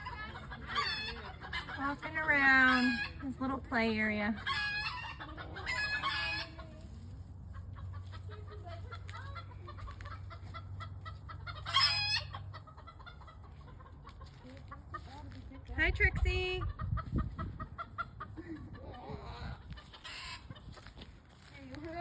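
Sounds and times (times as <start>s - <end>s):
loud high-pitched chicken calls: 0.0s - 6.9s, 7.5s - 14.2s, 16.6s - 20.9s
chickens clucking: 0.0s - 22.0s.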